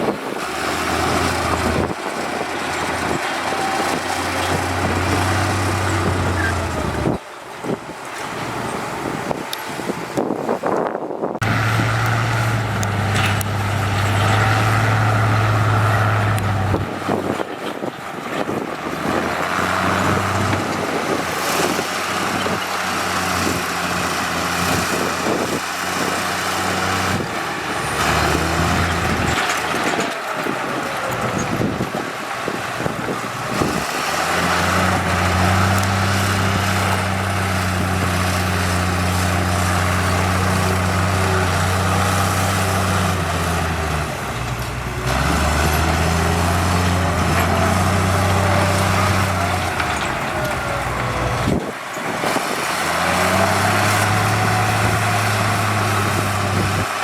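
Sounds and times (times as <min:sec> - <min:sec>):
heavy diesel engines droning: 0:00.0 - 0:57.0.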